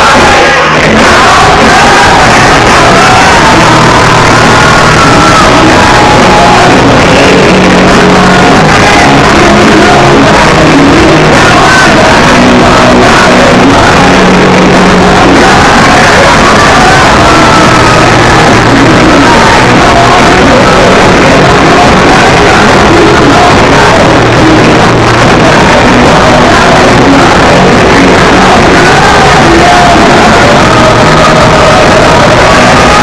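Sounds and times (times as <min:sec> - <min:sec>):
lead singer singing: 0:00.0 - 0:33.0.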